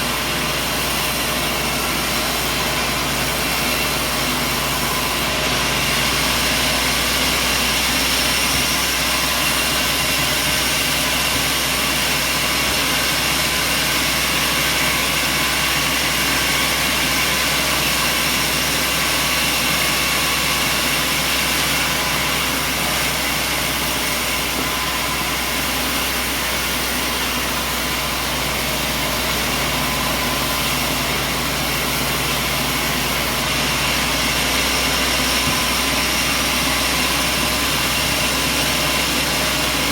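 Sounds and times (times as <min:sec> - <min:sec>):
engine running with whine: 0:00.0 - 0:39.9.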